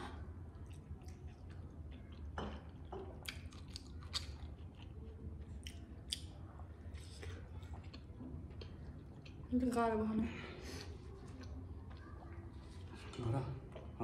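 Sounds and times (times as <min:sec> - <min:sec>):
chewing and wet mouth sounds: 0:00.0 - 0:14.0
faint steady low hum: 0:00.0 - 0:14.0.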